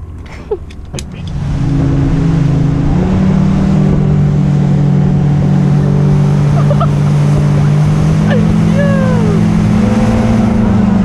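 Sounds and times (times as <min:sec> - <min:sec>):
motorboat engine running hard: 0:00.0 - 0:11.0
rushing wind and water: 0:00.0 - 0:11.0.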